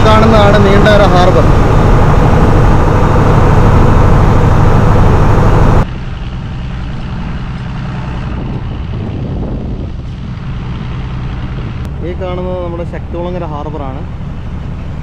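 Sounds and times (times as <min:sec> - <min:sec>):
boat diesel engine running: 0:00.0 - 0:15.0.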